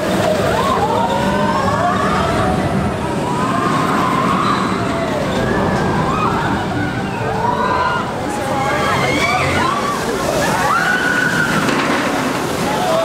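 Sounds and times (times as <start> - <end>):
steady rushing noise: 0.0 - 13.0
voices crying out: 0.3 - 11.7.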